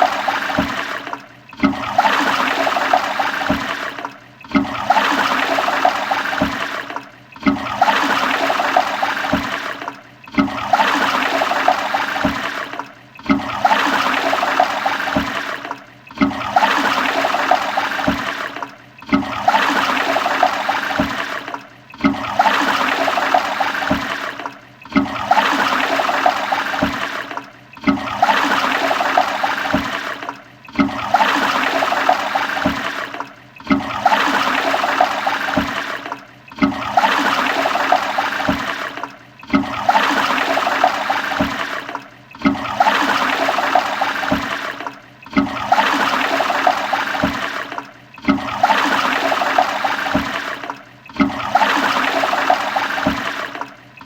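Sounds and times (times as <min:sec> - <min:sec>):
toilet flushing: 0:00.0 - 0:54.0.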